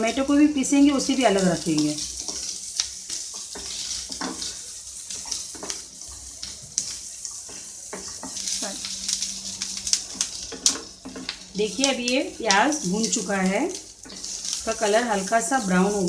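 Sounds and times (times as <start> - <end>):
onions sizzling in oil: 0.0 - 16.0
wooden spatula scraping a pan: 1.0 - 16.0.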